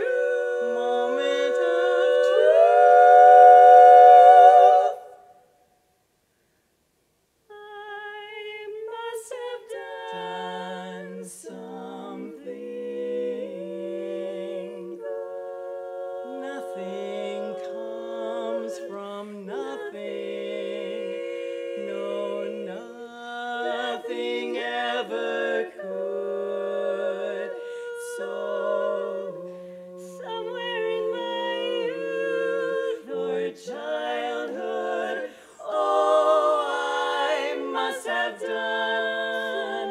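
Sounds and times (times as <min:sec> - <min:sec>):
women singing in harmony: 0:00.0 - 0:05.4, 0:07.5 - 0:39.9.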